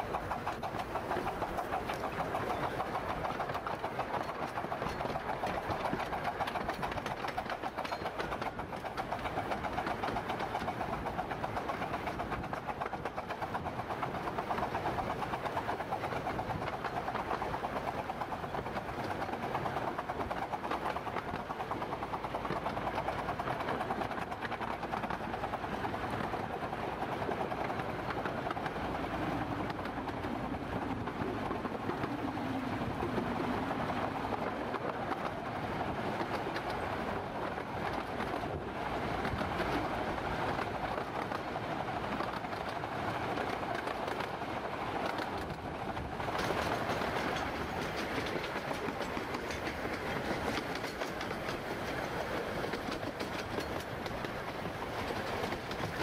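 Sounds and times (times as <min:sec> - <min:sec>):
steam locomotive rapid beat: 0:00.0 - 0:56.0
train running noise: 0:00.0 - 0:56.0.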